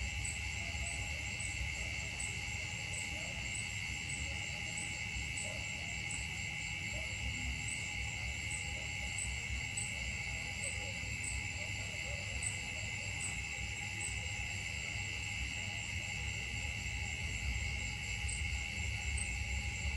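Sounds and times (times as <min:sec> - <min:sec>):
insects trilling: 0:00.0 - 0:19.9.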